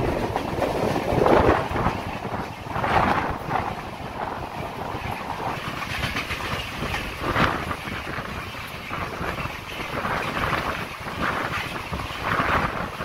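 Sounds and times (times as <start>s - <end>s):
train wheels rumbling on rails: 0.0s - 13.0s
wheels clicking over rail joints: 0.0s - 13.0s.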